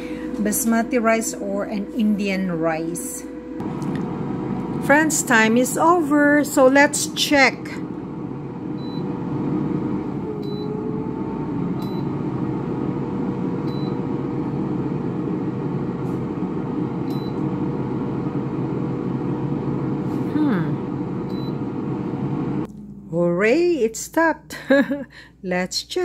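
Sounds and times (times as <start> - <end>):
air fryer fan running: 0.0 - 22.7.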